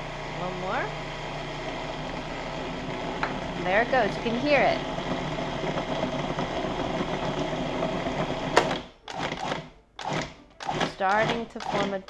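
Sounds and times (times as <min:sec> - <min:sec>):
food processor motor running: 0:00.0 - 0:12.0.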